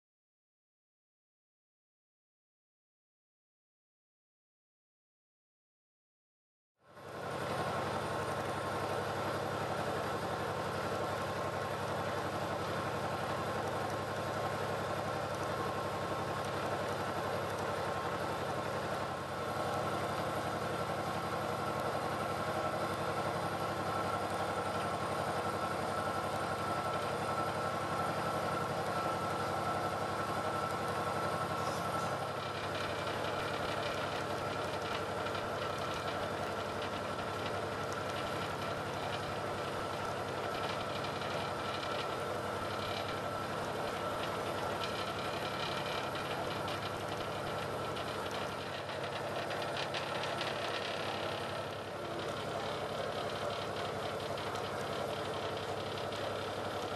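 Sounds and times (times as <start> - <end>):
boat engine drone and whine: 7.0 - 56.9.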